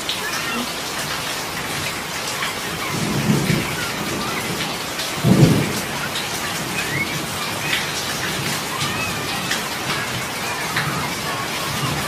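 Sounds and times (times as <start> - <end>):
heavy rain on a street: 0.0 - 12.0.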